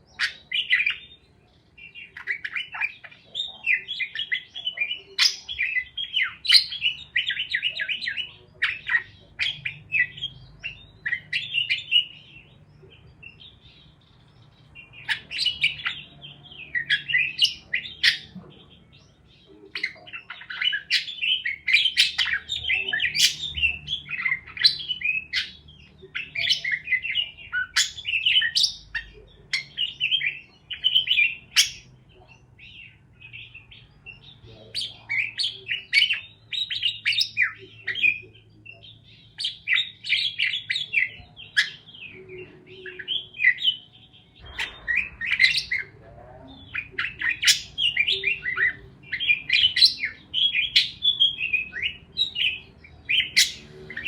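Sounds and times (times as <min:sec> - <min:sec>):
parakeets chirping and chattering: 0:00.0 - 0:54.0.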